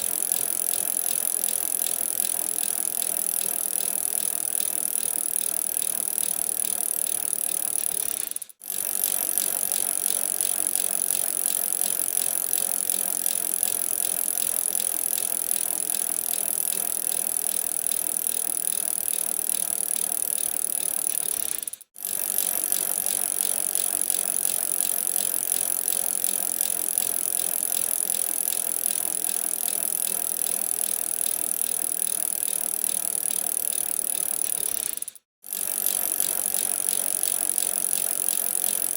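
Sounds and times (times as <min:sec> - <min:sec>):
bicycle chain rattling and ticking: 0:00.0 - 0:38.9.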